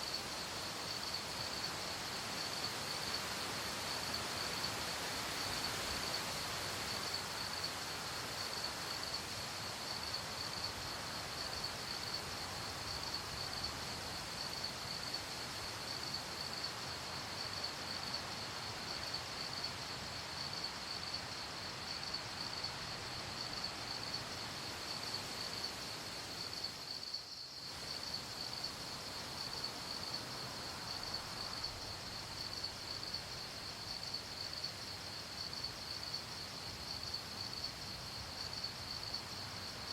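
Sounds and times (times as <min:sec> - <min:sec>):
background hiss: 0:00.0 - 0:39.9
crickets chirping: 0:00.0 - 0:39.9.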